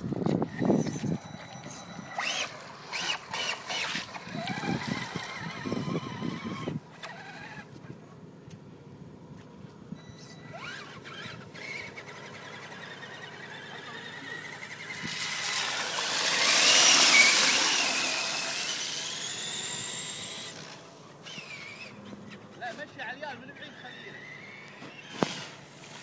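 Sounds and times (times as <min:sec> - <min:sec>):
toy truck motor whining: 0:00.0 - 0:07.8, 0:10.1 - 0:26.0.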